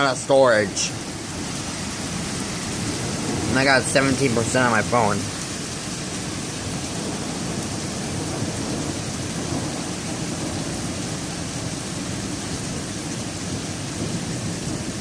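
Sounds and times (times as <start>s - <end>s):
rain and hail downpour: 0.0s - 15.0s.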